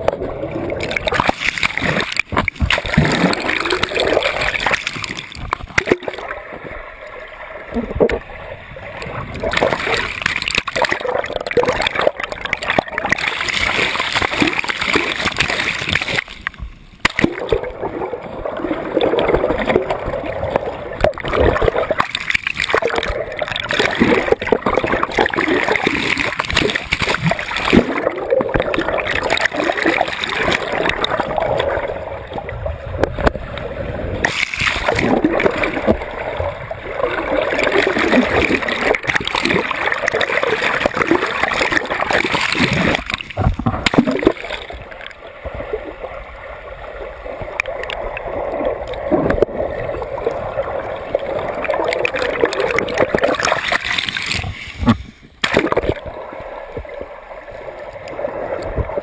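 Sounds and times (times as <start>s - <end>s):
water churning and splashing: 0.0s - 59.0s.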